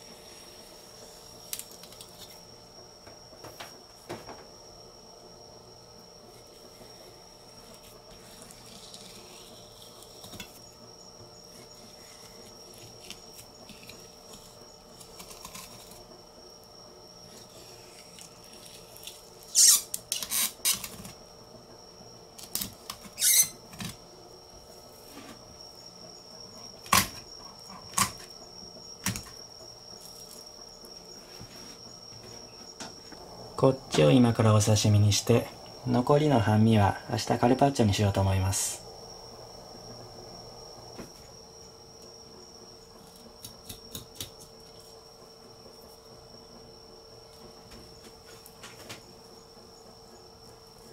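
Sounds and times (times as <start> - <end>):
high insect trill: 0.0 - 50.9.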